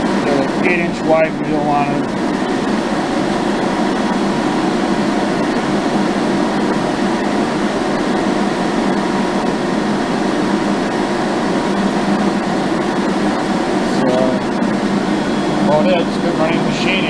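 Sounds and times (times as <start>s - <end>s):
grinder motor humming: 0.0s - 17.0s.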